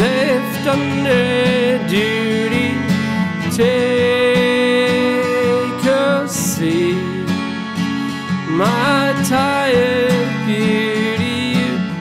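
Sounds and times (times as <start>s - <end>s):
acoustic guitar strumming: 0.0s - 12.0s
cello melody with sliding notes: 0.0s - 12.0s.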